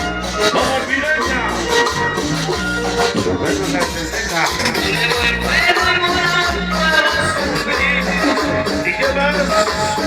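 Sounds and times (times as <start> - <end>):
cumbia music over sound system: 0.0 - 10.0.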